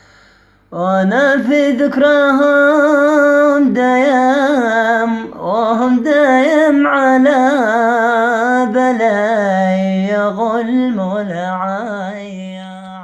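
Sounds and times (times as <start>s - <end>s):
man singing unaccompanied: 0.7s - 13.0s.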